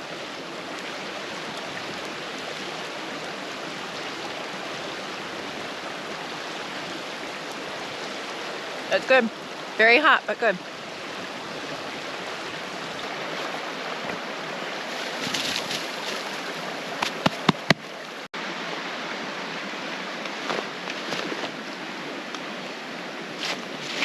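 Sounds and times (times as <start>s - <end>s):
creek running over rocks: 0.0s - 24.0s.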